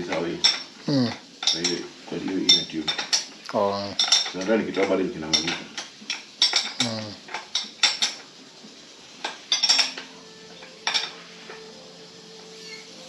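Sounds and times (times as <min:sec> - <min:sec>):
metal tools clinking: 0:00.1 - 0:08.2, 0:09.5 - 0:11.8.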